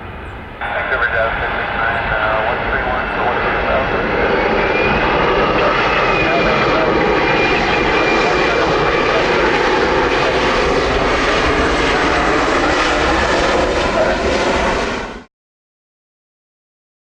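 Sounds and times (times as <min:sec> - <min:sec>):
airliner engine noise: 0:00.0 - 0:15.3.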